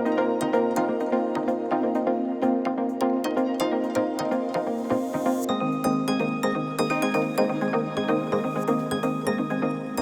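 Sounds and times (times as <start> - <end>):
electronic music with synth and beat: 0.0 - 10.0.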